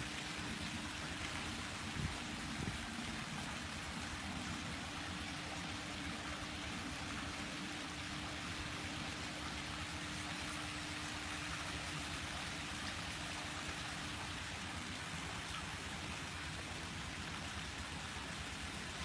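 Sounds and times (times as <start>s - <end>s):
water splashing and bubbling: 0.0s - 19.0s.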